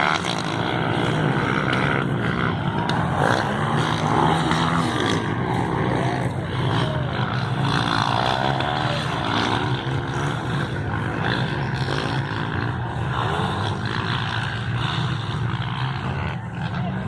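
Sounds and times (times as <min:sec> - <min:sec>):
motocross bikes revving past: 0:00.0 - 0:17.0.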